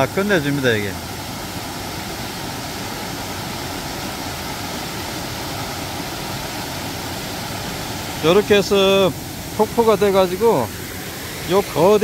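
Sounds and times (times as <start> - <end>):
waterfall rushing into a pool: 0.0 - 12.0.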